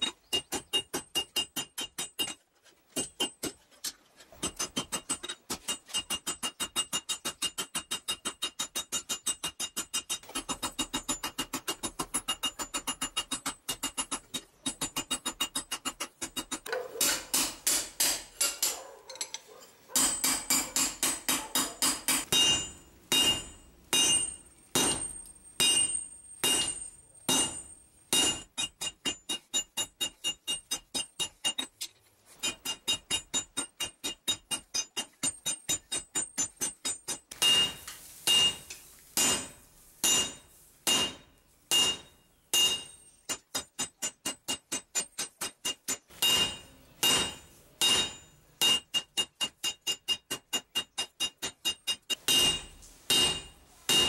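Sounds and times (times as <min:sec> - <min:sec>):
hammer striking steel on anvil: 0:04.5 - 0:31.7, 0:32.4 - 0:54.0.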